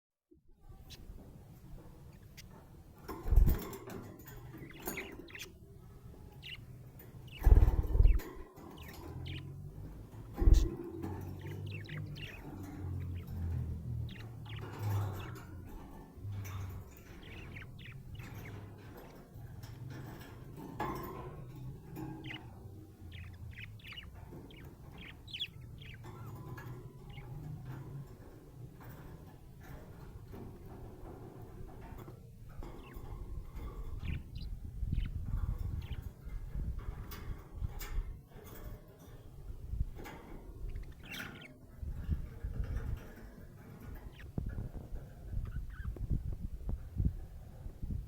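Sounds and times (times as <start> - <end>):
budgerigars chirping: 0.8 - 38.8, 39.5 - 46.8.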